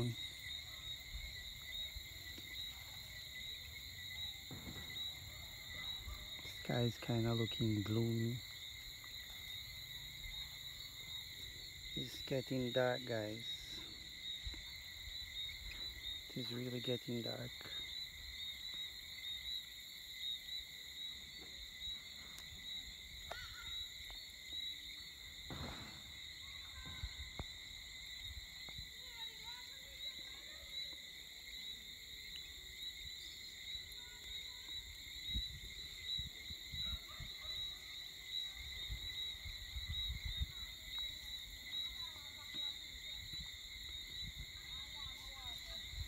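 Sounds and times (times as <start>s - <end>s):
insect chorus shrilling: 0.0s - 46.0s.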